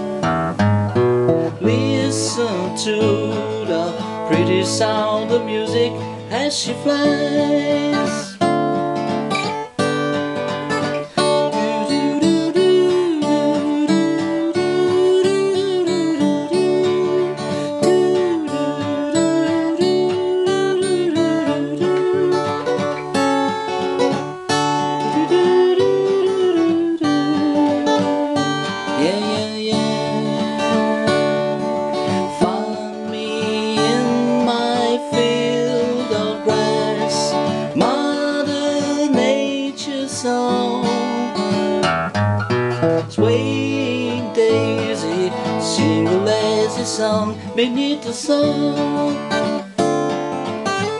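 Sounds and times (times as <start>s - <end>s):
wordless vocal melody: 0.0s - 42.1s, 42.9s - 50.9s
acoustic guitar playing: 0.0s - 50.9s.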